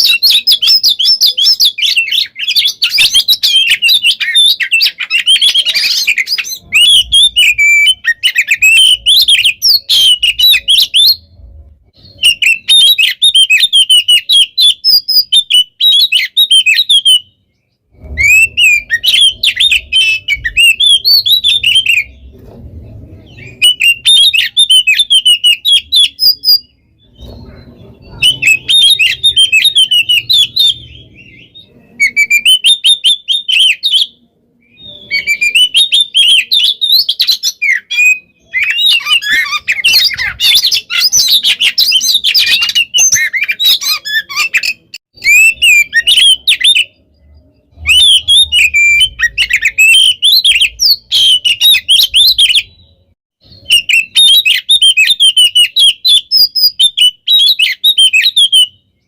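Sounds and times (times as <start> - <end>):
bird singing rapid chirps and trills: 0.0 - 59.0.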